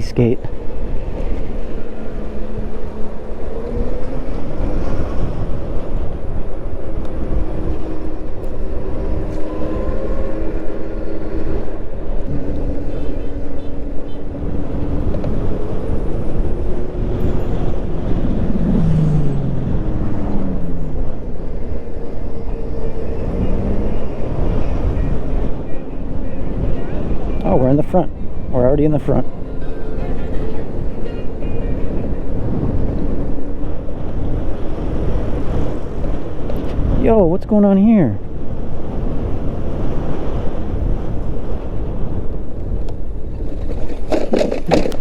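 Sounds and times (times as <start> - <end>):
wind and road noise: 0.0 - 45.0.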